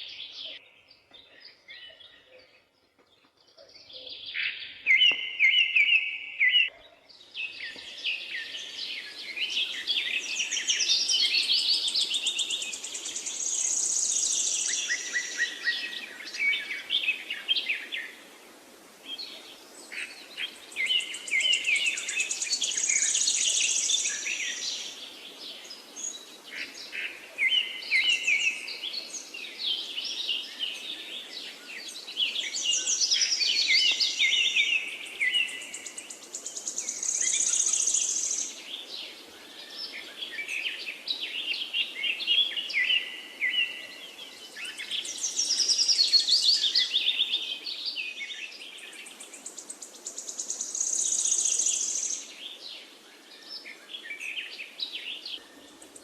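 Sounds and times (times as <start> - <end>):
songbirds singing and chirping: 0.0 - 56.0
faint river rushing: 7.3 - 56.0.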